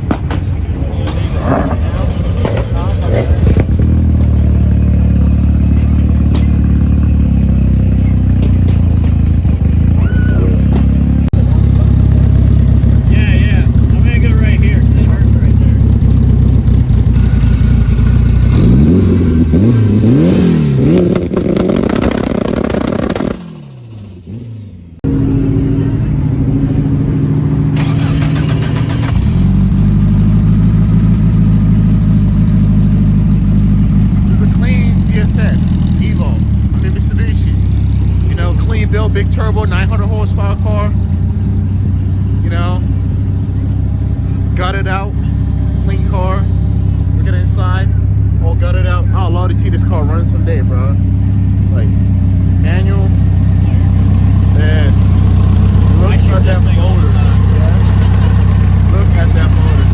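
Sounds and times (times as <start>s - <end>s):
loud car engine idling: 0.0s - 59.9s.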